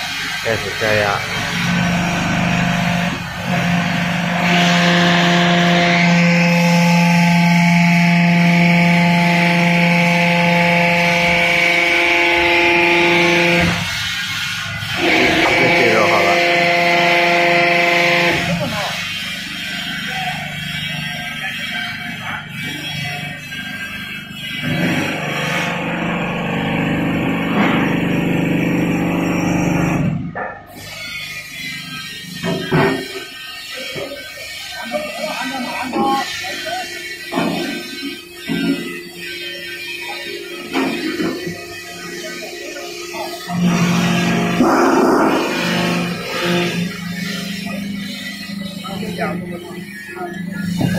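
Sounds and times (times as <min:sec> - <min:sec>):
hydraulic press humming: 0:00.0 - 0:50.9.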